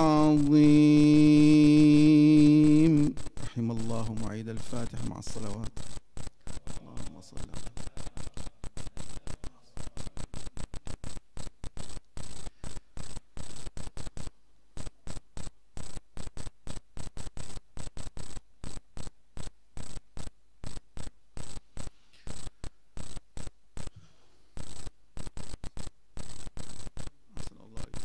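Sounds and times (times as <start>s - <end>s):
microphone line crackling: 0.0s - 28.0s.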